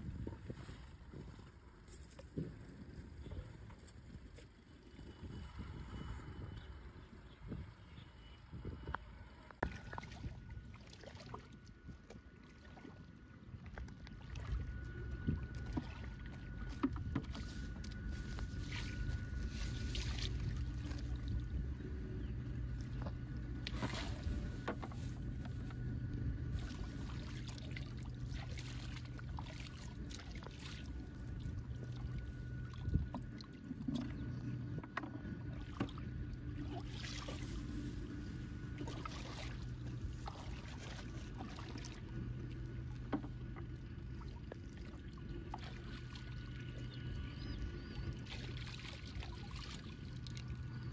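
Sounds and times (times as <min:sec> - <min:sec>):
steady low hum: 0:00.0 - 0:50.9
muddy water sloshing and splashing: 0:09.6 - 0:50.9.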